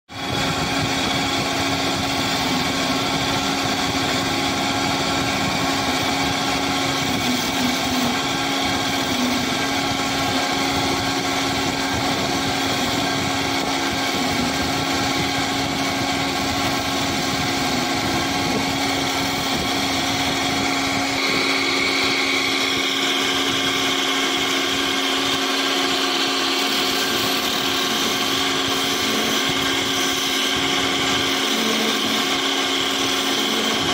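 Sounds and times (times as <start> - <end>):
wood lathe motor hum: 0.1 - 33.9
chisel scraping spinning wood: 0.2 - 33.9.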